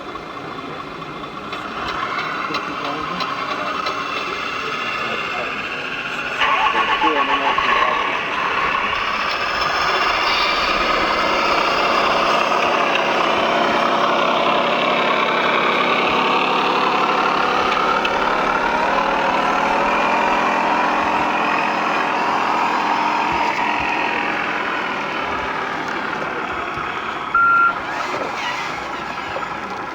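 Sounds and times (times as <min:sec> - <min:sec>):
model machine engine running: 0:00.0 - 0:29.9
whining gliding tones: 0:00.0 - 0:29.9.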